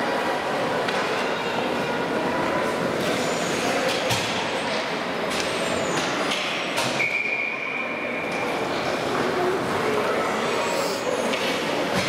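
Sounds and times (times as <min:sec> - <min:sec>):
ice rink arena noise: 0:00.0 - 0:12.0.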